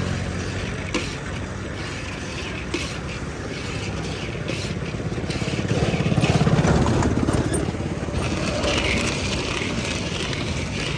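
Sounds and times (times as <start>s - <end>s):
motor running with fast pulse: 0.0s - 10.9s.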